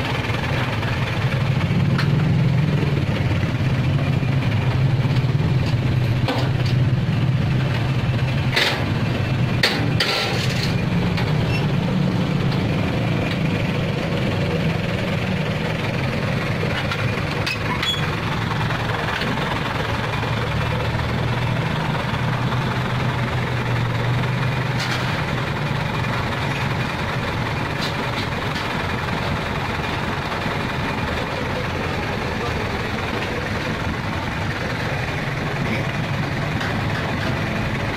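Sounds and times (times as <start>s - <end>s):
diesel truck engine rumbling: 0.0s - 37.9s.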